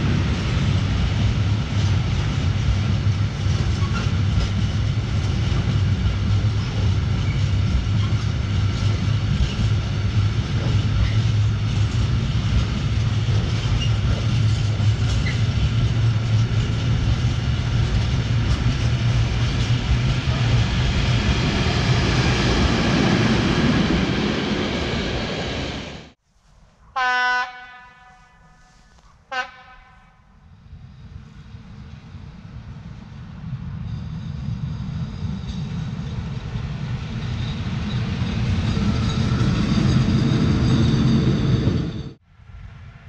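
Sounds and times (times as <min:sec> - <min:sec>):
steel wheels rumbling on rails: 0:00.0 - 0:26.2, 0:30.3 - 0:43.0.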